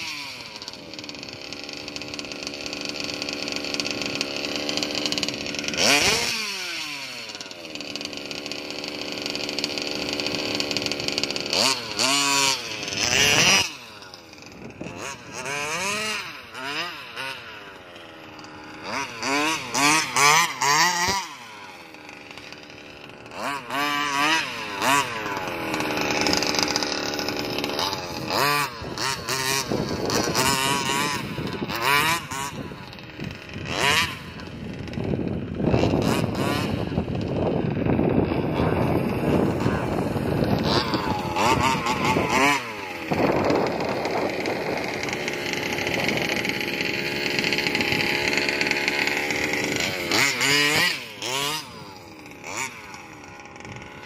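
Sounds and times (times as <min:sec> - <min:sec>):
small two-stroke engine revving: 0:00.0 - 0:54.0.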